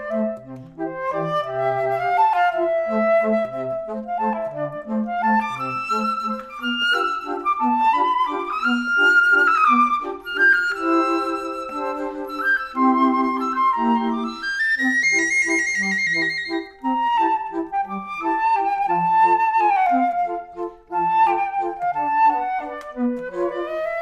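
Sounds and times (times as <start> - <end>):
flute-like melody: 0.0 - 24.0.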